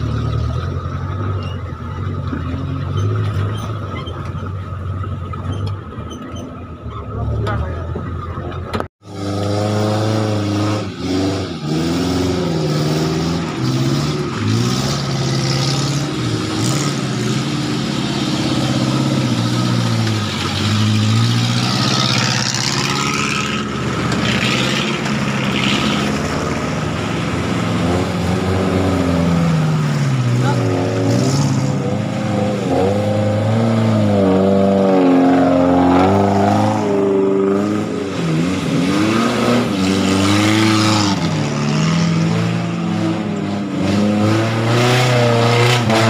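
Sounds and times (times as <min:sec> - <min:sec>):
off-road engine revving: 0:00.0 - 0:46.0.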